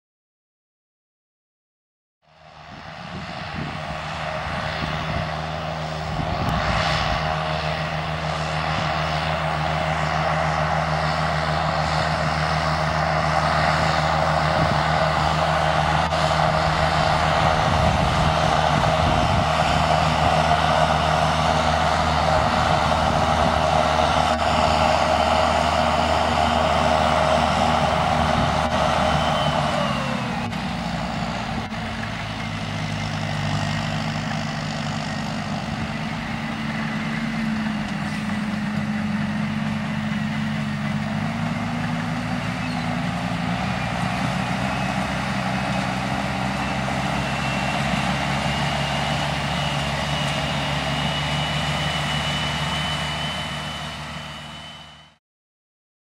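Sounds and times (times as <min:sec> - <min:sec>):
tractor diesel engine running: 0:02.2 - 0:55.2.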